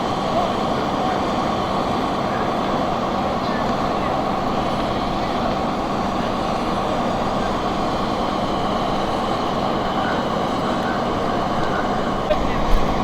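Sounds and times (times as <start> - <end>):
fire truck engines rumbling: 0.0 - 13.0.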